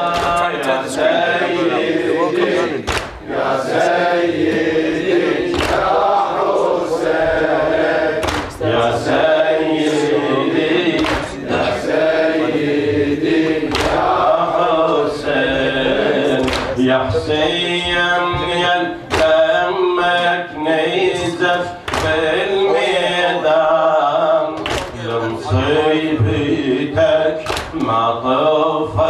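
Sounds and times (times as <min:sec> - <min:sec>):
rhythmic chest striking: 0:00.0 - 0:28.1
men chanting a lament: 0:00.0 - 0:29.0.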